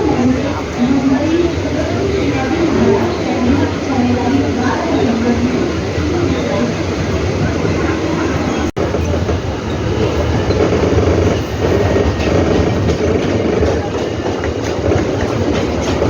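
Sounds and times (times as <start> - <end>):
train running on track: 0.0 - 16.0.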